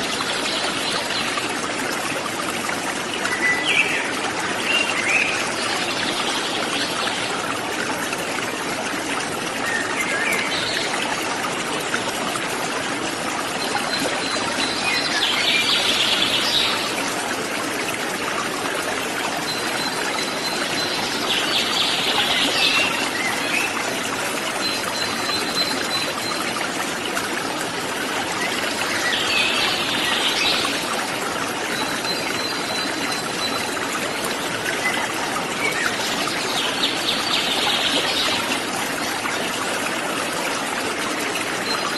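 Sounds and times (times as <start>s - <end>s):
water running over waterfall: 0.0s - 41.9s.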